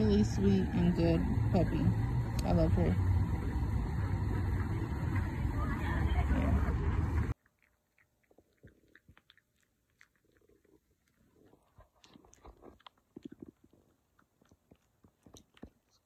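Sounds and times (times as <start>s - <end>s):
puppy chewing: 1.5s - 16.0s.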